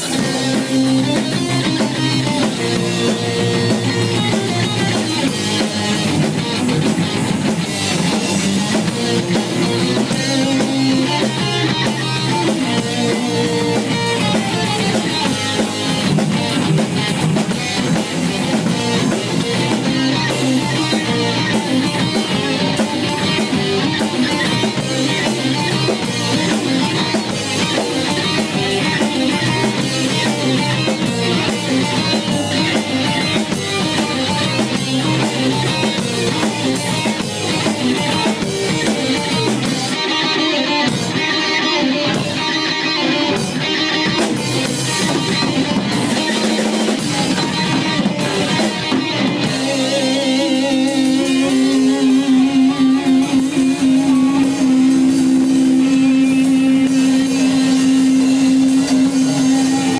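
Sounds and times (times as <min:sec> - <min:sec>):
heavy metal band playing: 0:00.0 - 0:59.9.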